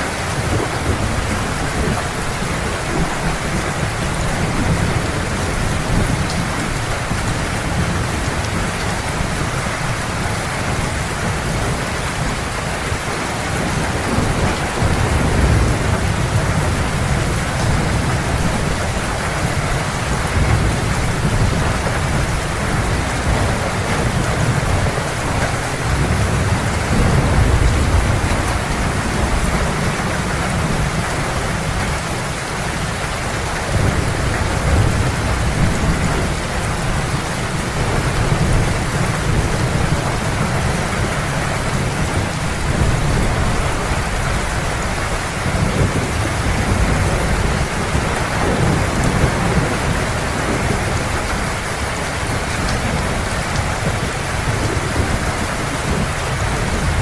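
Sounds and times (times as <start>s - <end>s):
heavy rain: 0.0s - 57.0s
low rolling thunder: 0.0s - 57.0s.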